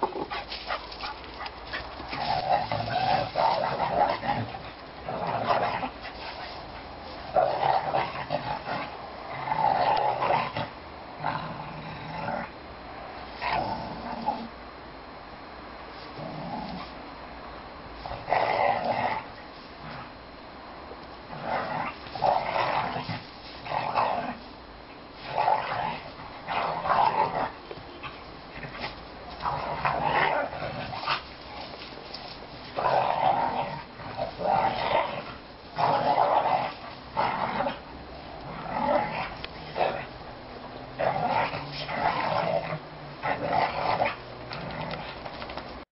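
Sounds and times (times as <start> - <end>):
dogs growling and snarling: 0.0 - 14.5, 16.0 - 17.0, 18.0 - 20.2, 21.2 - 24.6, 25.2 - 45.8.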